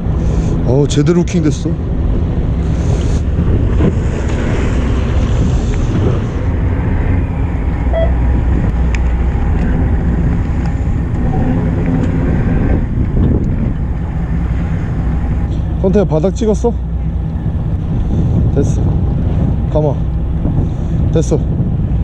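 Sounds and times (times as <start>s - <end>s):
boat engine running: 0.0s - 22.0s
wind buffeting microphone: 0.0s - 22.0s.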